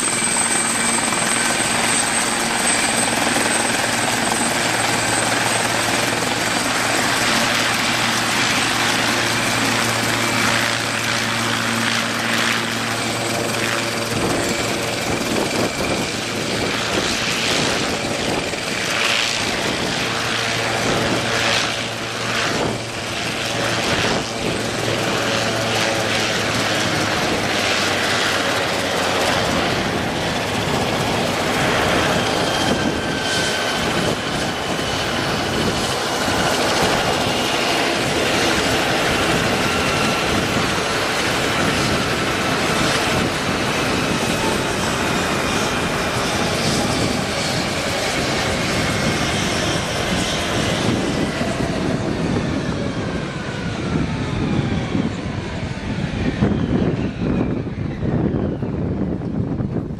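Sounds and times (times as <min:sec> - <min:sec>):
helicopter rotors and turbine: 0:00.0 - 0:59.9.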